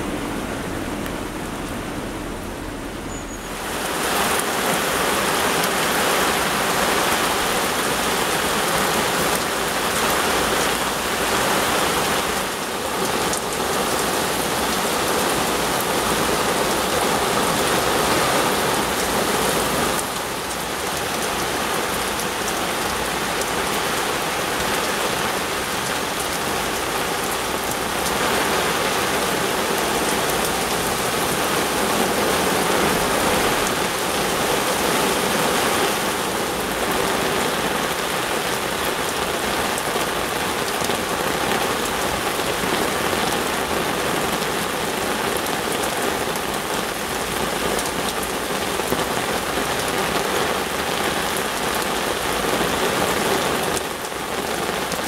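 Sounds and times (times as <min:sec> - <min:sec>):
heavy rain on water: 0:00.0 - 0:55.0.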